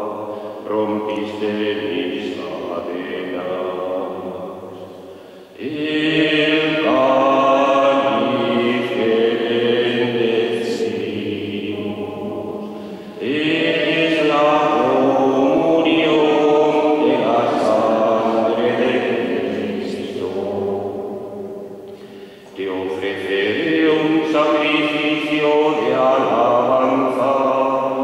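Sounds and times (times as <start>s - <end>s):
choir singing a slow chant: 0.0s - 28.0s.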